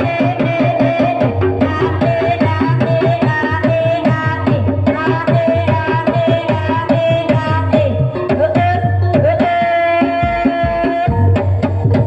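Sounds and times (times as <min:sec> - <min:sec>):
hand-drum strokes: 0:00.0 - 0:12.0.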